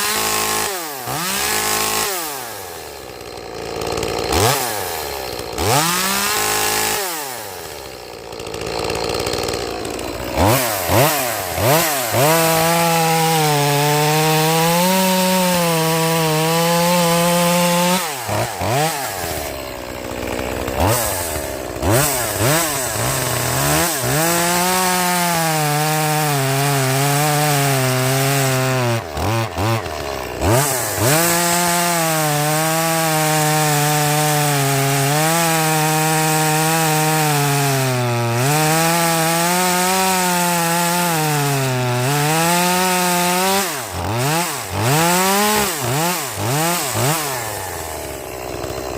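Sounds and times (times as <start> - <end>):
chainsaw engine revving and cutting: 0.0 - 48.9.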